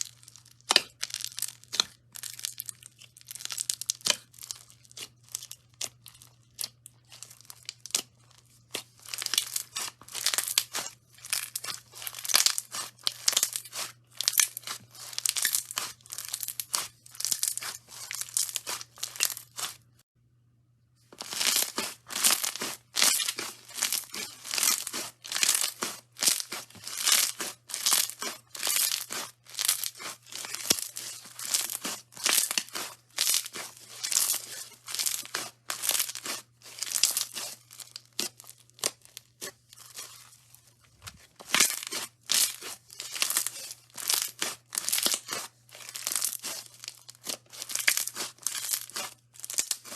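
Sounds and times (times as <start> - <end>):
slime crackling and popping: 0.0 - 20.0, 21.2 - 49.9.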